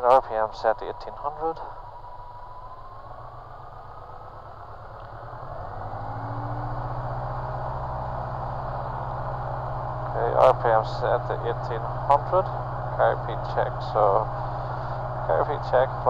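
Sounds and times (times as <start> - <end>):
light aircraft engine running: 0.0 - 16.0
thin rising whine: 1.3 - 16.0.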